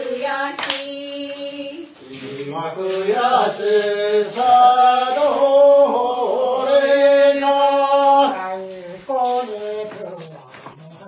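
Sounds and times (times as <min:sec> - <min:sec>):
person singing chant-like melody: 0:00.0 - 0:11.0.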